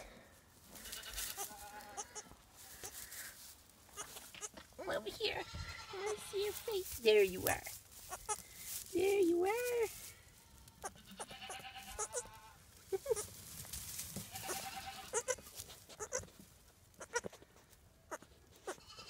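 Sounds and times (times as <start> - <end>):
rustling in straw: 0.0 - 19.0
goat kid bleating softly: 0.8 - 13.4, 14.2 - 16.4, 17.0 - 17.5, 18.1 - 19.0.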